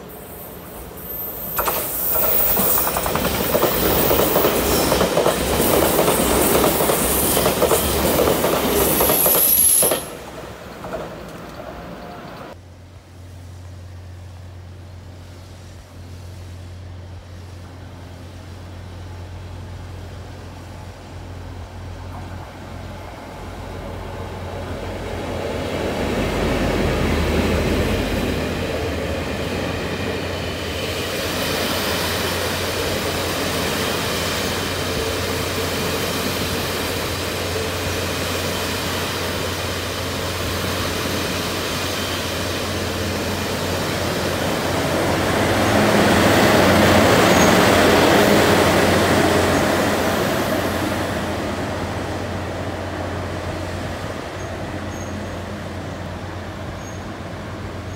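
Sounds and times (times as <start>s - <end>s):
train wheels and machinery: 0.0s - 57.9s.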